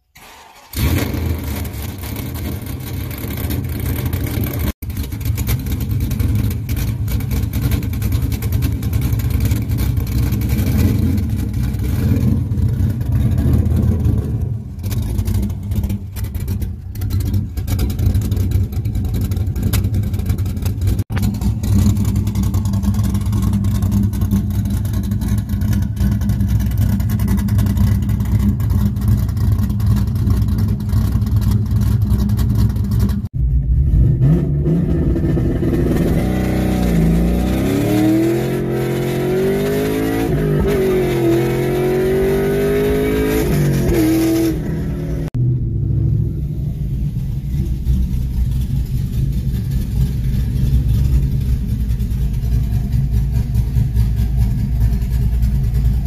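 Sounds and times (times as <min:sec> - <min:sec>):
car engine running: 0:01.1 - 0:56.0.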